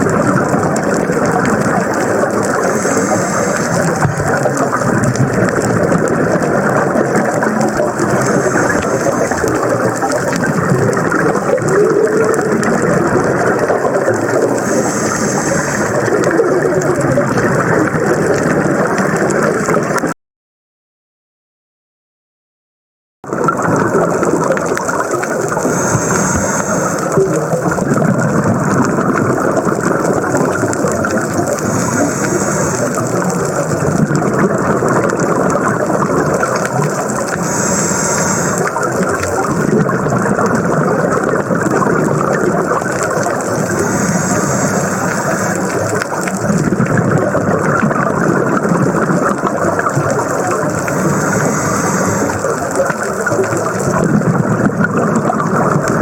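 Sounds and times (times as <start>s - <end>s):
underwater regulator breathing bubbles: 0.0s - 20.1s, 23.3s - 56.0s.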